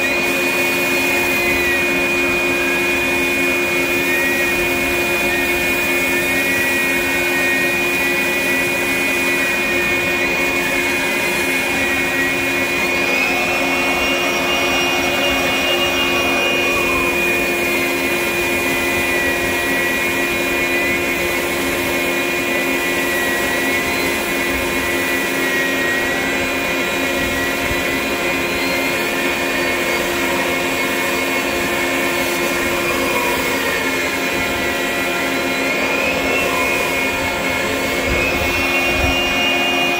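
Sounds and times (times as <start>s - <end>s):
sander and vacuum motor whine: 0.0s - 39.9s.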